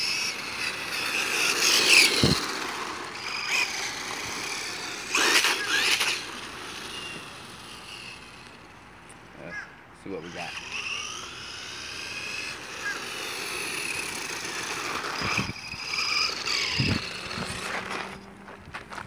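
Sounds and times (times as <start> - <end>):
electric motor and gear whine: 0.0 - 9.3, 10.0 - 18.9
tyre noise on road: 0.0 - 9.4, 10.6 - 19.0.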